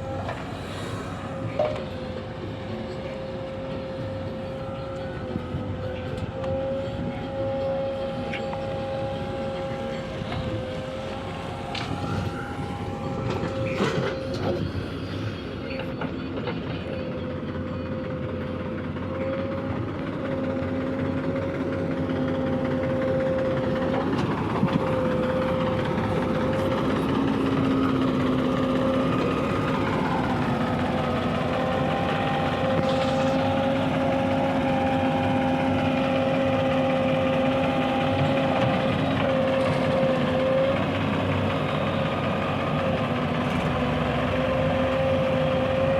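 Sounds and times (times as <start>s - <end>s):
diesel earthmoving machinery running: 0.0s - 45.9s
engine whine: 0.0s - 45.9s.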